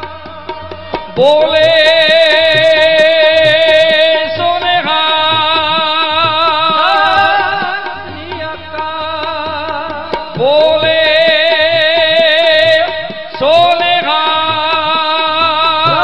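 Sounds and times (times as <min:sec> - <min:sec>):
man singing with vibrato: 0:00.0 - 0:16.0.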